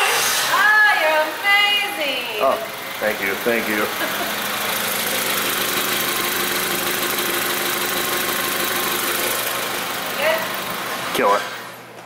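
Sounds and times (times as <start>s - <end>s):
car engine idling: 0.8s - 11.1s.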